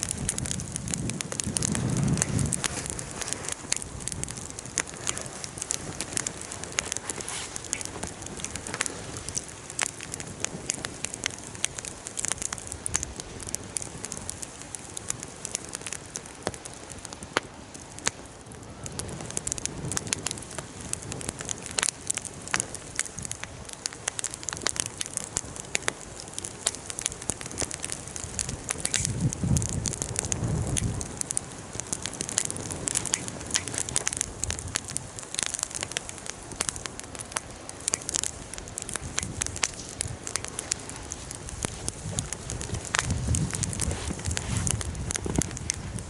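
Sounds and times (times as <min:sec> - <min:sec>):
bonfire crackling: 0:00.0 - 0:46.0.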